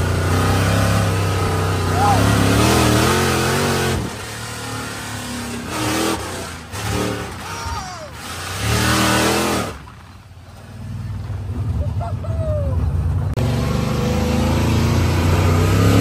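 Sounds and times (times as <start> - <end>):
dirt bike engines revving past: 0.0 - 16.0.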